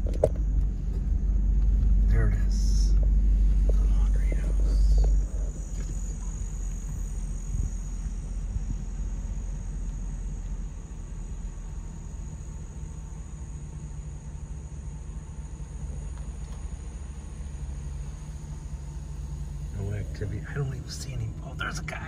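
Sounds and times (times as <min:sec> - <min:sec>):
car rumbling inside cabin: 0:00.0 - 0:22.0
insects chirring: 0:01.2 - 0:22.0.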